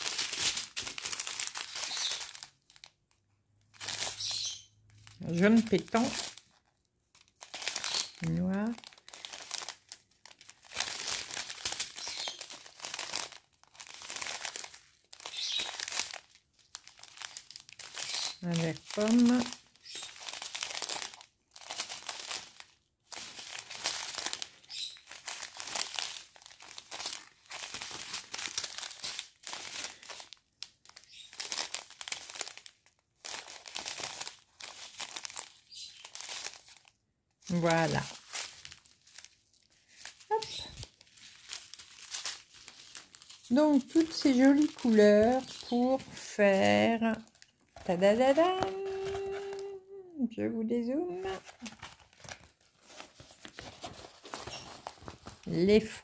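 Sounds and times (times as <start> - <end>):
plastic sachets crinkling: 0.0 - 50.1, 50.8 - 56.0.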